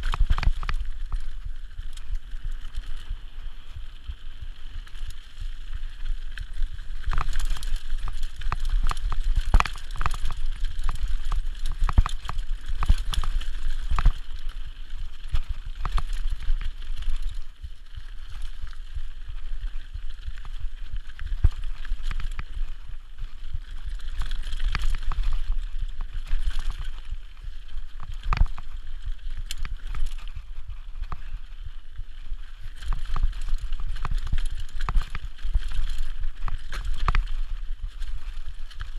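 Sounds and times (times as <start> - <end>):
bike rattling over bumps: 0.0 - 38.9.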